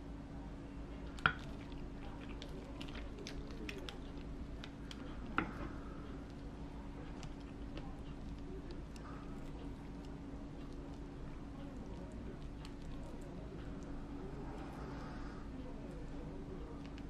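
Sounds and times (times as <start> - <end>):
faint steady hum: 0.0 - 17.0
faint ticks and crackles: 1.0 - 17.0.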